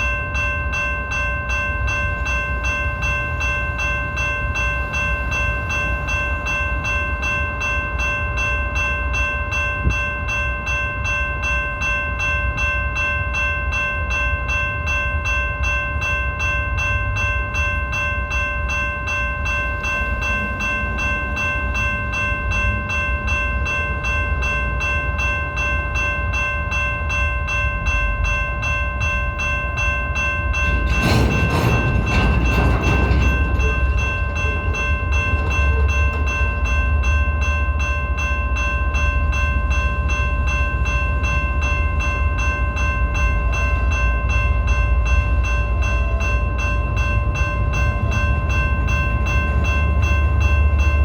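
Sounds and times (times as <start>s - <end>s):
freight train rumble: 0.0s - 51.0s.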